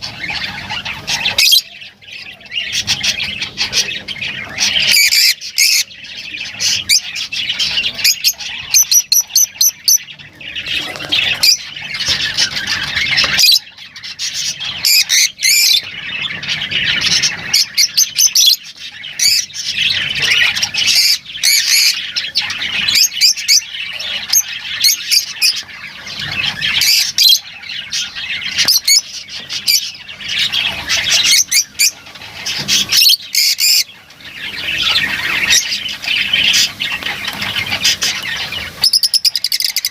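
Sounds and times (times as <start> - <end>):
lovebirds squawking and chirping: 0.0 - 39.9.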